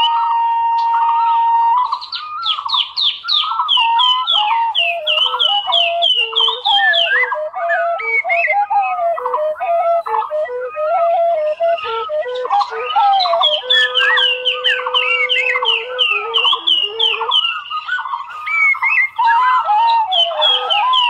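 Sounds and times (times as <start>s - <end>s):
birdlike chirping and whistling: 0.0s - 21.0s.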